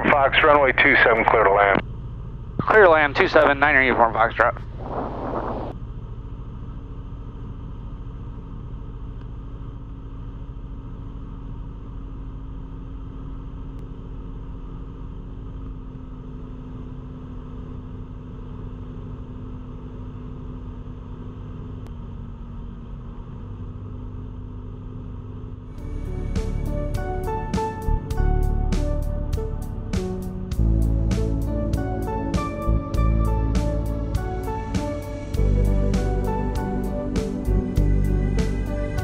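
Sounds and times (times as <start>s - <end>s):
aircraft engine droning: 0.0s - 24.6s, 25.4s - 39.0s.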